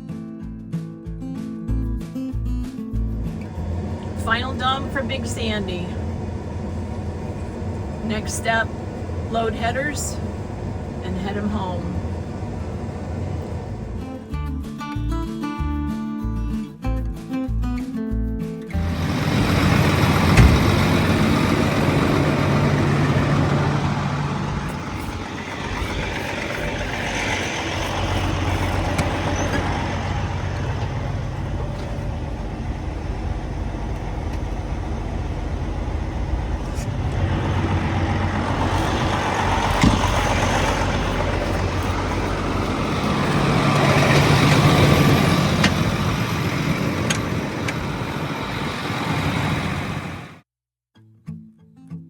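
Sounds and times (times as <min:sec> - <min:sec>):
heavy diesel engine running: 0:03.0 - 0:14.6, 0:18.7 - 0:50.4.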